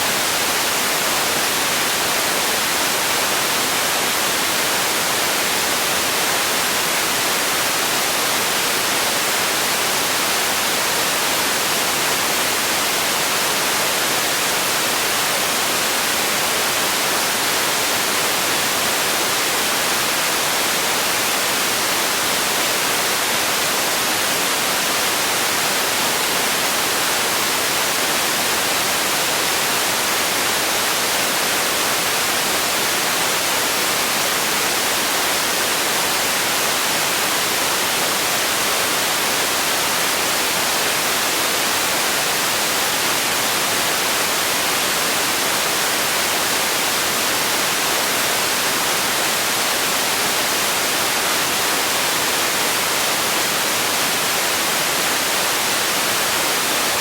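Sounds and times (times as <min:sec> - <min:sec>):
even noise hiss: 0:00.0 - 0:57.0.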